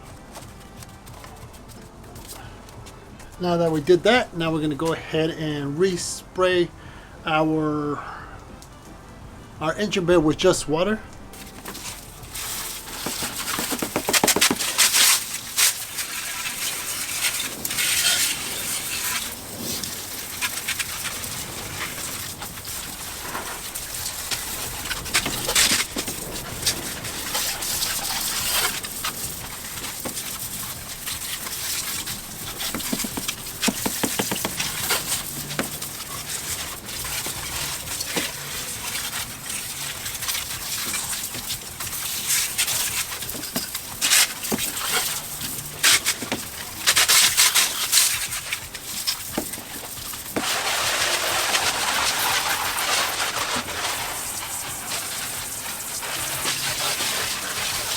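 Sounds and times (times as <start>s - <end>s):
water spraying onto engine: 11.2s - 57.9s.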